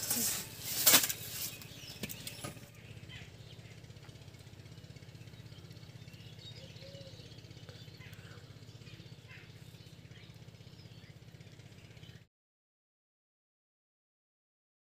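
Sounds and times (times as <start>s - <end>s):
birds chirping: 0.0s - 12.3s.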